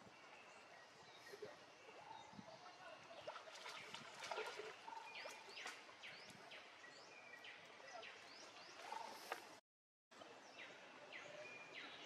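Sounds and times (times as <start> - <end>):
soft outdoor ambience: 0.0 - 12.0.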